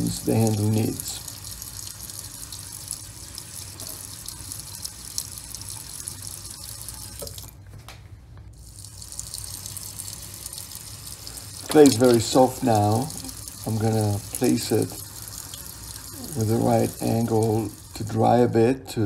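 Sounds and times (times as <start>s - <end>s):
tap water running into sink: 0.0s - 7.6s, 8.6s - 18.4s.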